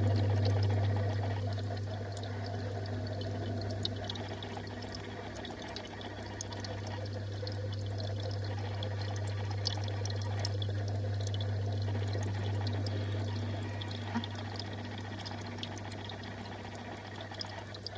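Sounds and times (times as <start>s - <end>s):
pump humming: 0.0s - 17.9s
water trickling into a tank: 0.0s - 17.9s.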